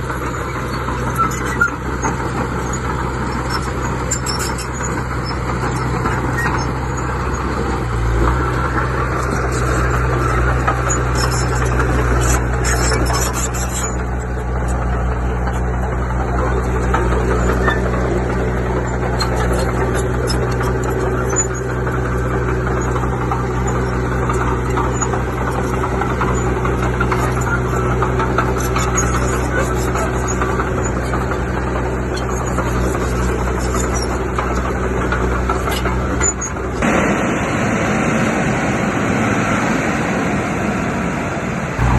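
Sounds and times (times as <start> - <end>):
diesel engine running steadily: 0.0 - 41.9.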